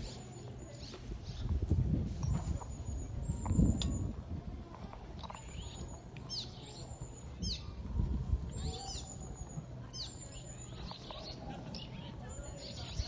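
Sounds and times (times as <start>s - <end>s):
small birds chirping: 0.0s - 1.6s, 2.2s - 4.1s, 5.2s - 7.8s, 8.5s - 13.0s.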